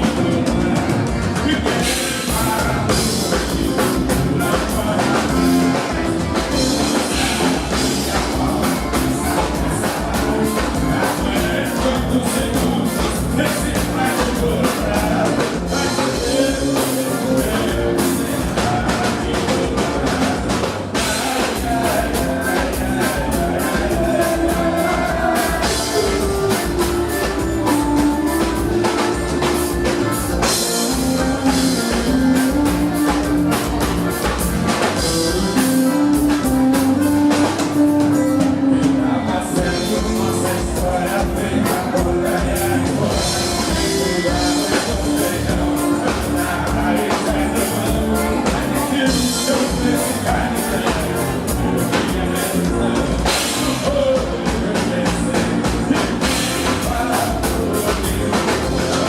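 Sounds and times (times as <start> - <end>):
melodic lead line: 0.0 - 59.0
steady drum beat: 0.0 - 59.0.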